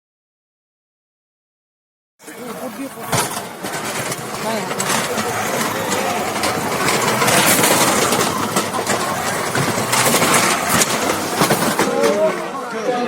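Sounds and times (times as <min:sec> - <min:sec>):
electric motors running: 0:02.2 - 0:13.0
faint voices: 0:02.2 - 0:13.0.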